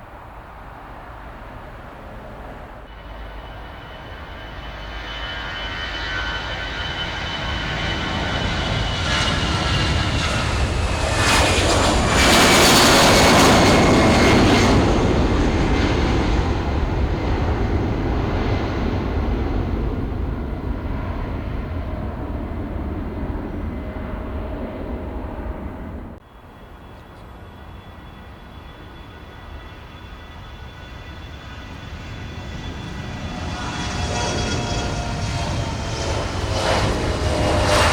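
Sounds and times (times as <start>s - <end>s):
jet engines roaring on takeoff: 0.0s - 37.9s.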